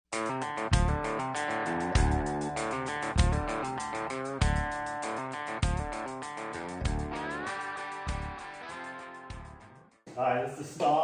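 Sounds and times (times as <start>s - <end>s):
guitar over a drum beat: 0.1s - 9.9s.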